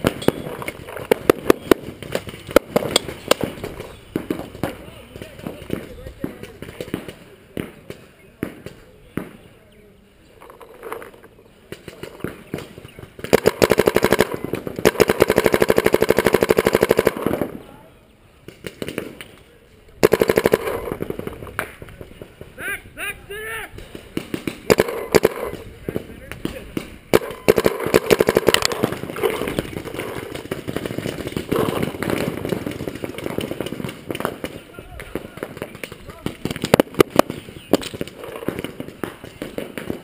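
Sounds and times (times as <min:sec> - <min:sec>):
paintball marker firing: 0:00.0 - 0:09.5, 0:10.4 - 0:17.5, 0:20.0 - 0:22.5, 0:23.7 - 0:40.0.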